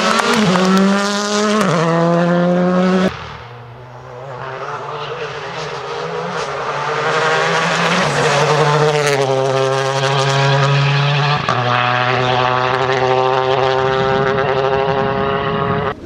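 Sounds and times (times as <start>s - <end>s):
rally car engine passing: 0.0s - 16.0s.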